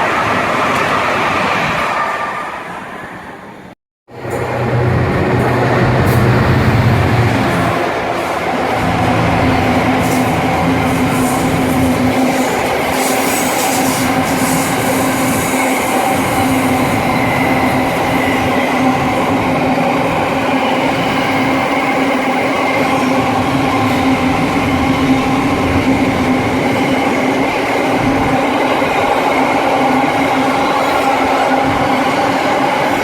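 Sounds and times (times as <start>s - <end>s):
train humming: 0.0s - 33.0s.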